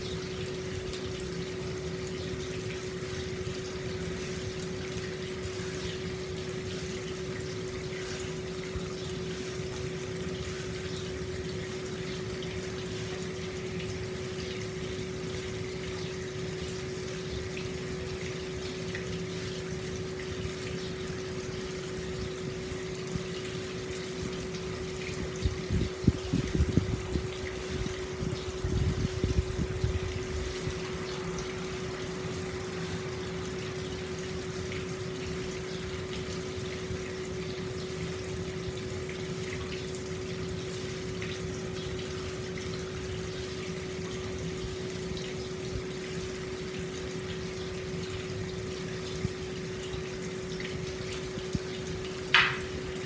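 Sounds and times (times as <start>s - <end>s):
water pouring into a bath: 0.0s - 53.0s.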